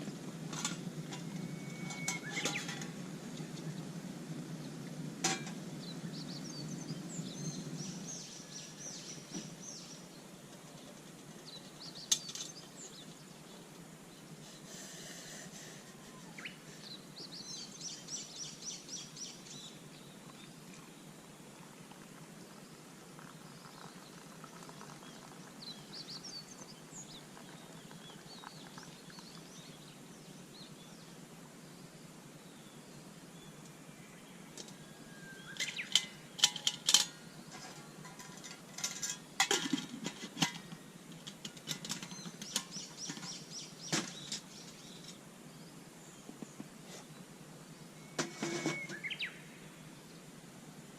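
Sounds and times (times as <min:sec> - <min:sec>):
faint outdoor background noise: 0:00.0 - 0:50.9
birds chirping: 0:01.0 - 0:04.8, 0:05.4 - 0:21.7, 0:22.4 - 0:50.3.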